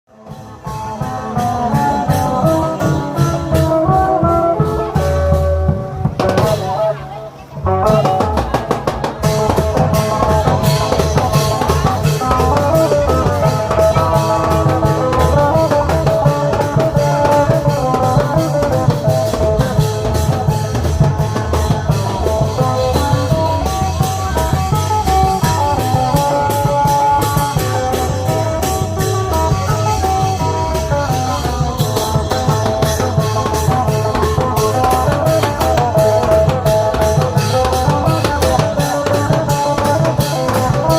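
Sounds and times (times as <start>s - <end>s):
steady drum beat: 0.1s - 40.9s
plucked string melody: 0.2s - 40.9s.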